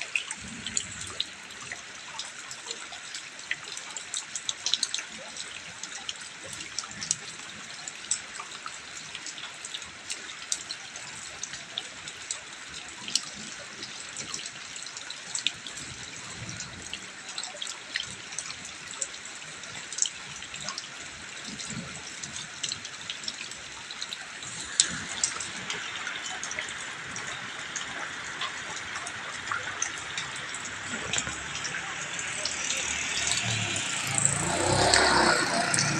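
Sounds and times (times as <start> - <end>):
raindrops ticking and splashing: 0.0 - 35.9
steady rain: 0.0 - 35.9.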